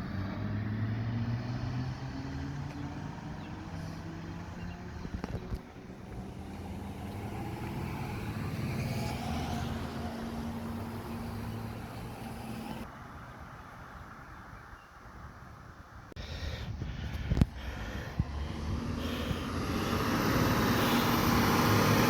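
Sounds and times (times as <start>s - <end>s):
diesel engine passing: 0.0s - 13.3s, 17.2s - 22.0s.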